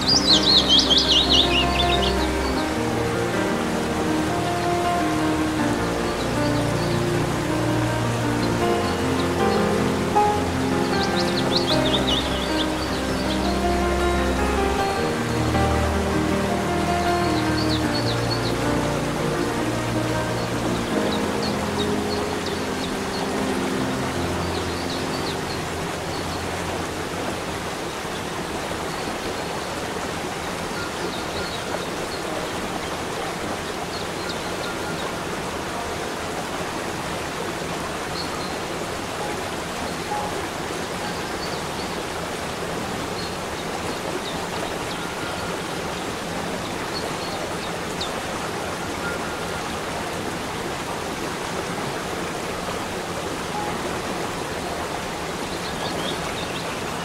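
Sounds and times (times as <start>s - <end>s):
waterfall and creek rushing: 0.0s - 57.0s.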